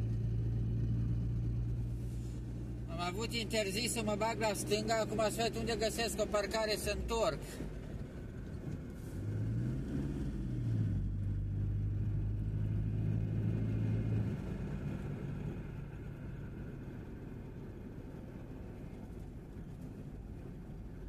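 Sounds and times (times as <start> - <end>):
tyre and road noise: 0.0 - 21.0
vehicle engine droning: 0.0 - 21.0.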